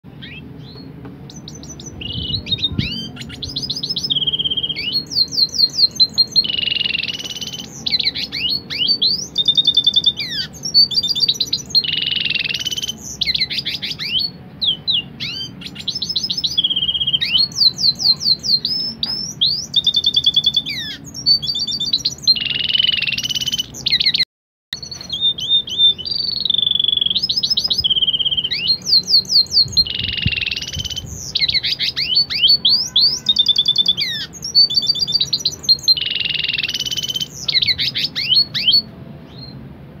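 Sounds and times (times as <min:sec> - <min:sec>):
bird singing trills: 0:00.1 - 0:24.2, 0:24.8 - 0:39.6.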